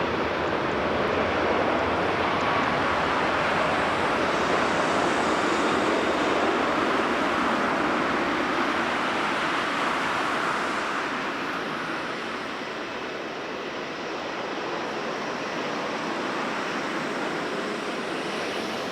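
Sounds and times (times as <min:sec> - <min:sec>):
jet airliner engines: 0:00.0 - 0:18.9.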